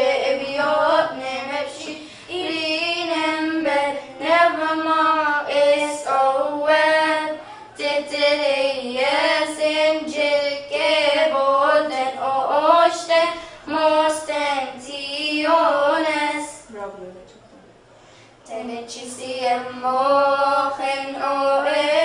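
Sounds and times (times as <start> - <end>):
girls singing a hymn: 0.0 - 16.7, 18.5 - 22.0.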